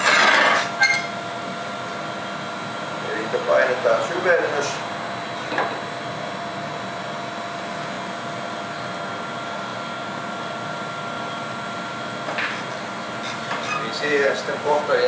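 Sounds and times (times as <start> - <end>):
furnace and ventilation roar: 0.0 - 15.0.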